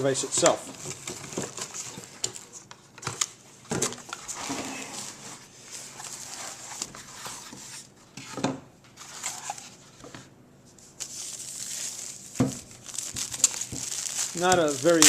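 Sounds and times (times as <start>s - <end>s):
cardboard and plastic rustling: 0.0s - 15.0s.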